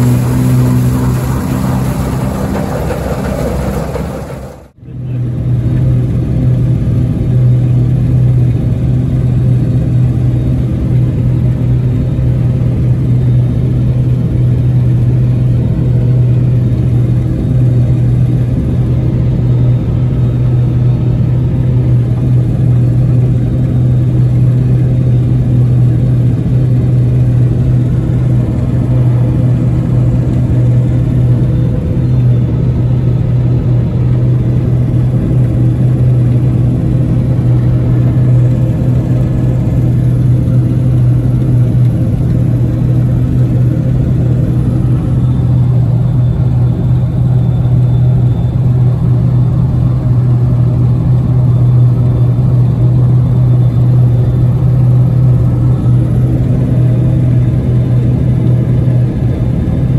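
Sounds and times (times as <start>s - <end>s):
combine harvester engine hum: 0.0s - 59.9s.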